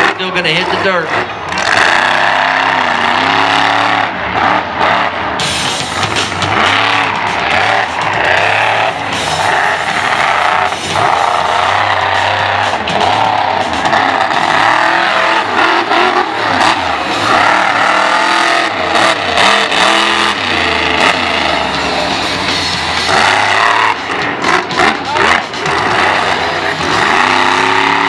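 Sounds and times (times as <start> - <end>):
monster truck engine revving: 0.0 - 28.0.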